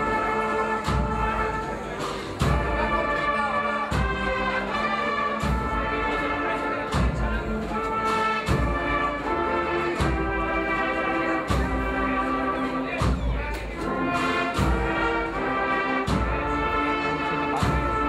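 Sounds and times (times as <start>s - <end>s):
brass band playing a slow march: 0.0s - 18.0s.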